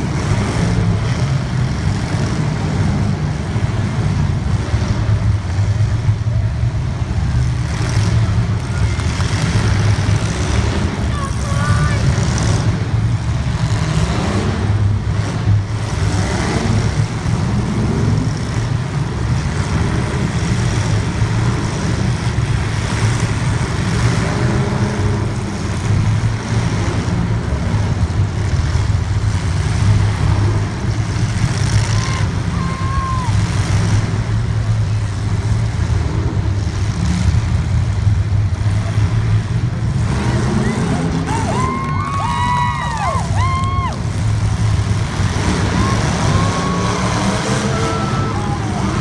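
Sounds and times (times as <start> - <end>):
race car engines revving: 0.0 - 49.0.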